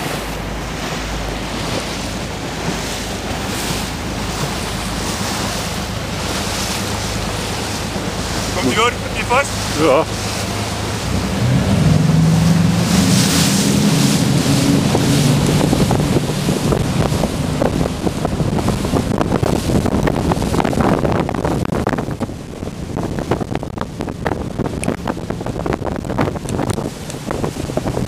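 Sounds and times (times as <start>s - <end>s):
motorboat engines running hard: 0.0s - 28.0s
water rushing along hull: 0.0s - 28.0s
wind buffeting microphone: 0.0s - 28.0s.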